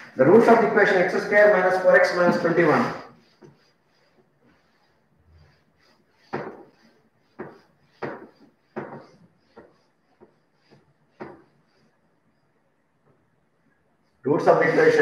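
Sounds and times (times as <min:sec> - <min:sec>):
duster rubbing whiteboard: 0:00.2 - 0:12.6.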